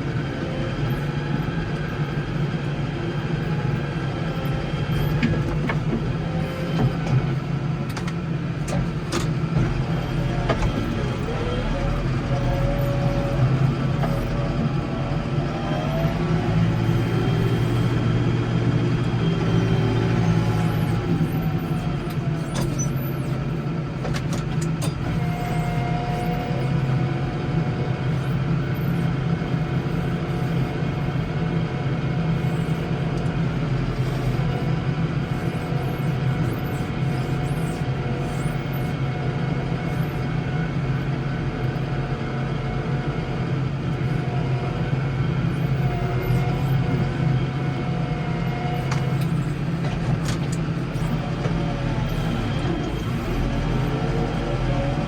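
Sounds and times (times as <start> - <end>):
garden tractor engine droning: 0.0 - 55.0.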